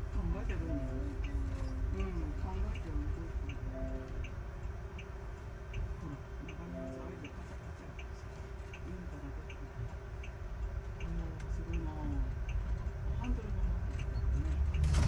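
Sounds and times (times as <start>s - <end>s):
low rumble of bus on road: 0.0s - 15.0s
turn signal ticking: 0.0s - 15.0s.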